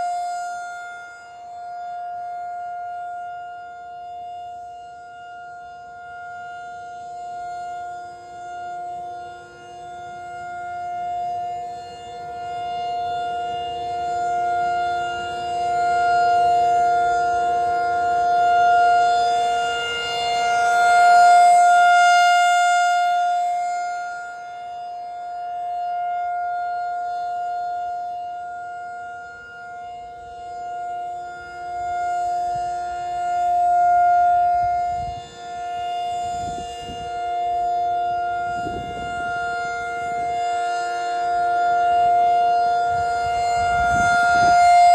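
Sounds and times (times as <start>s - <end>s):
rotating warning siren: 0.0s - 44.9s.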